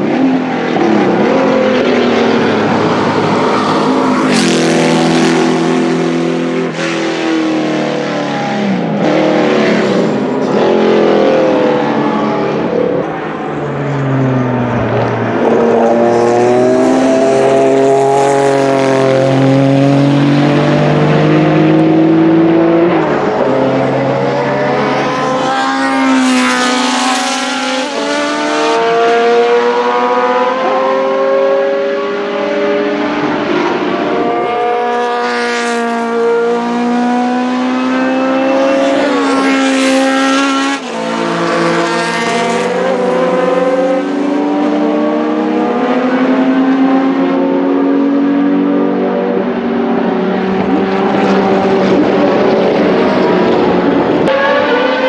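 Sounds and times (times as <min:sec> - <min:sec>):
racing car engines passing: 0:00.0 - 0:55.0.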